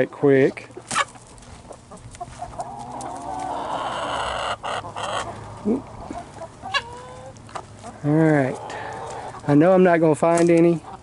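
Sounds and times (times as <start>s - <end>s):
hens clucking and squawking: 0.0s - 11.0s.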